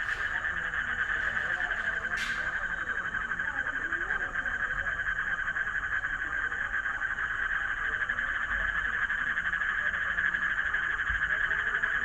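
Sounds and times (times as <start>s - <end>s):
frogs calling in chorus: 0.0s - 12.0s.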